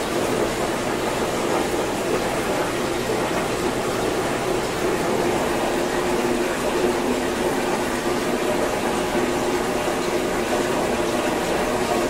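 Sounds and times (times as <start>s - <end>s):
faint low pump hum: 0.0s - 12.0s.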